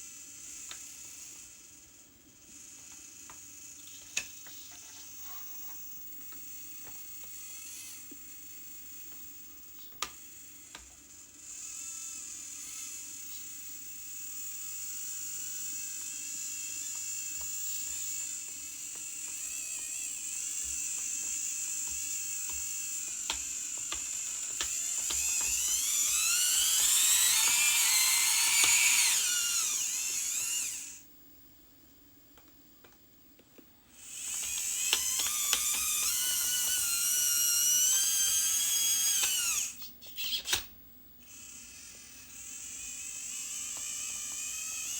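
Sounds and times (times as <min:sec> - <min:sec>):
electric motors whining: 0:00.0 - 0:31.1, 0:33.9 - 0:44.9.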